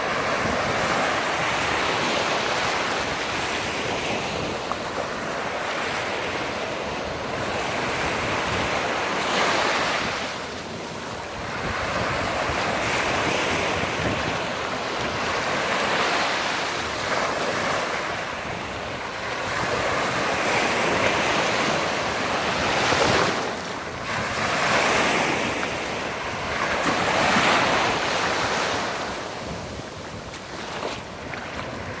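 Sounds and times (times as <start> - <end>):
sea waves washing onto shore: 0.0 - 32.0.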